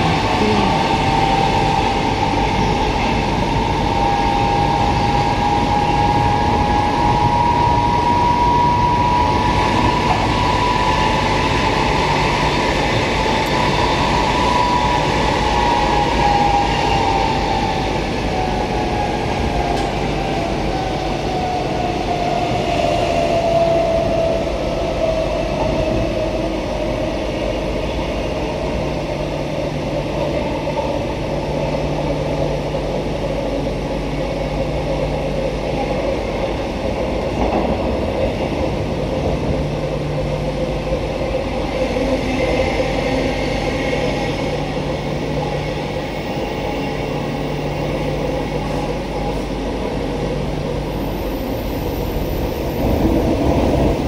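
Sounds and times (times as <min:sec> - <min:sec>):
electric train whine: 0:00.0 - 0:54.0
train running noise: 0:00.0 - 0:54.0.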